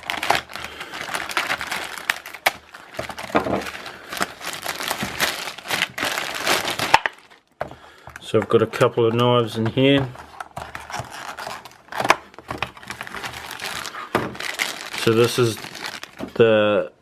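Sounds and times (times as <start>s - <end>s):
packaging crinkling and rustling: 0.0s - 16.5s.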